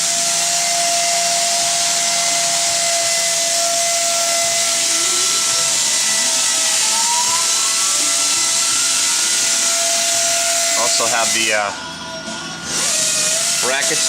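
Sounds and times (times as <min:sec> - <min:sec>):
constant whine: 0:00.0 - 0:14.0.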